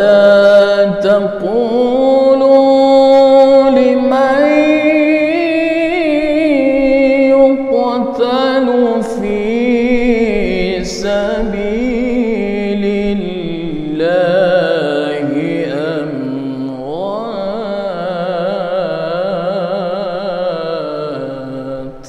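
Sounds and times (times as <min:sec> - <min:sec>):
man reciting melodically: 0:00.0 - 0:22.0.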